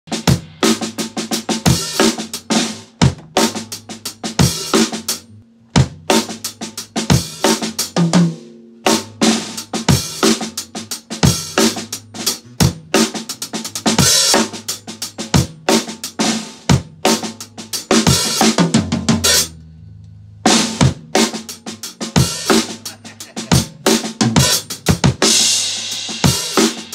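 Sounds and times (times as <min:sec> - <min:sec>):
drum kit playing: 0:00.1 - 0:19.6, 0:20.4 - 0:26.9.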